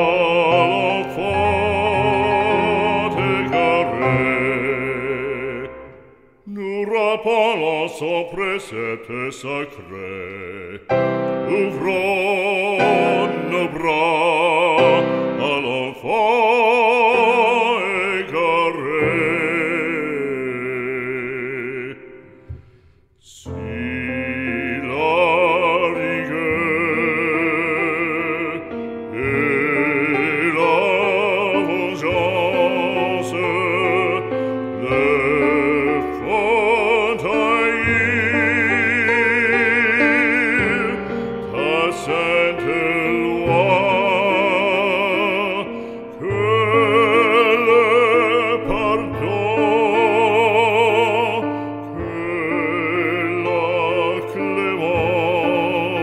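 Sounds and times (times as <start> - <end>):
operatic singing: 0.0 - 56.0.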